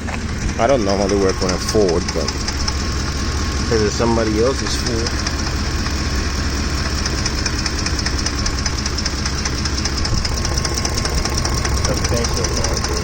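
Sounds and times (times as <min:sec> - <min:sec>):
engine running: 0:00.0 - 0:13.0
fast ticking-knocking from engine: 0:00.0 - 0:13.0.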